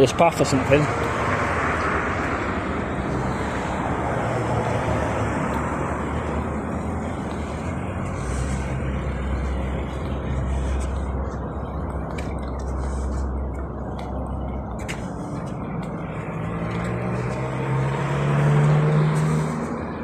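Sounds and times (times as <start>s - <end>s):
road traffic rushing by: 0.0s - 20.0s
deep engine hum: 0.9s - 20.0s.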